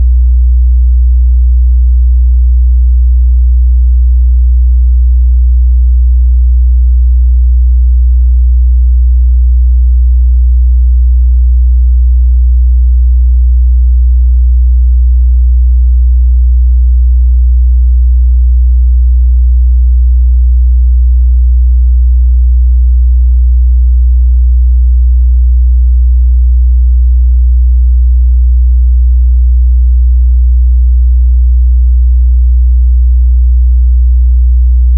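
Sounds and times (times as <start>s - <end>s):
low sine-wave test tone: 0.0s - 34.9s.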